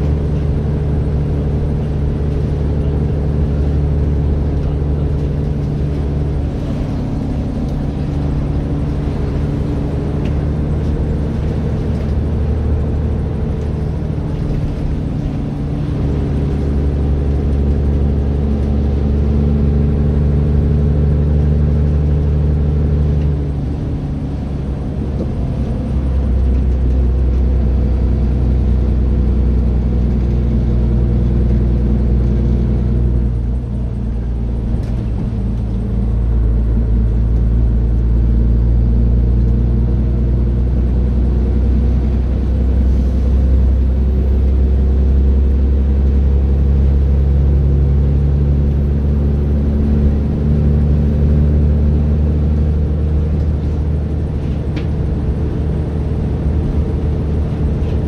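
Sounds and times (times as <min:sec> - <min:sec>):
bus engine running: 0:00.0 - 0:58.0.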